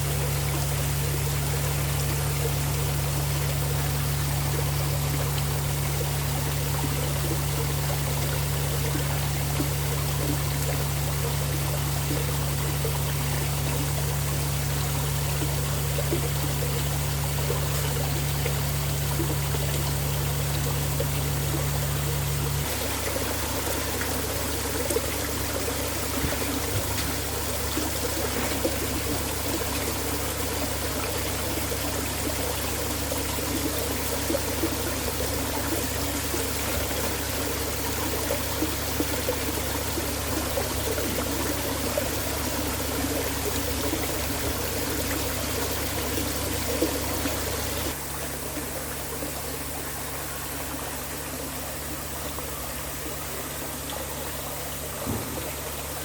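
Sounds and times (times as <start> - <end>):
low steady hum: 0.0 - 56.0
water splashing down waterfall: 0.0 - 56.0.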